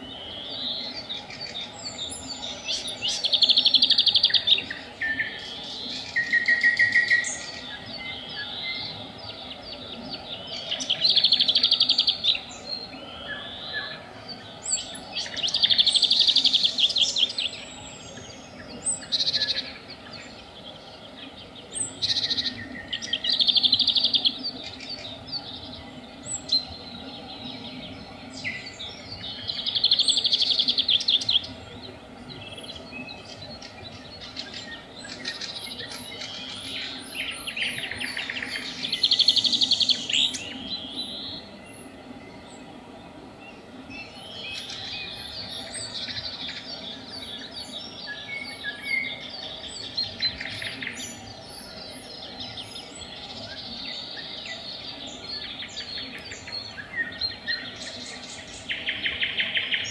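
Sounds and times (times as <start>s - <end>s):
nightingale singing trills: 0.0s - 42.8s, 43.4s - 59.9s.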